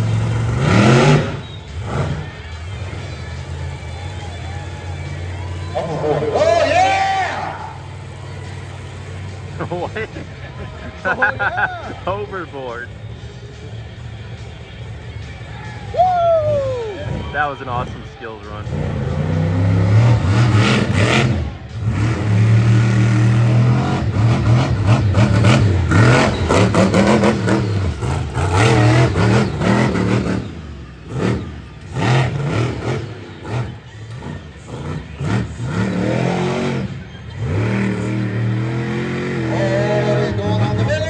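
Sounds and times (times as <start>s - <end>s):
monster truck engine revving: 0.0s - 12.0s, 16.4s - 41.0s.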